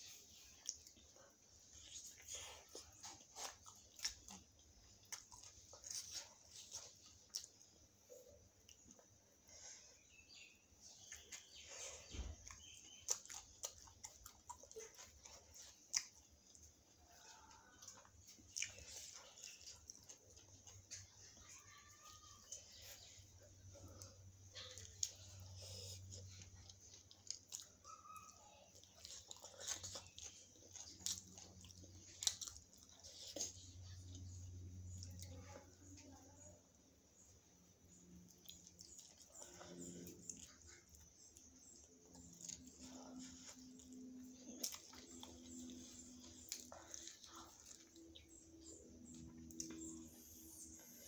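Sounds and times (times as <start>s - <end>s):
biting and chewing: 0.0s - 36.0s, 37.8s - 51.0s.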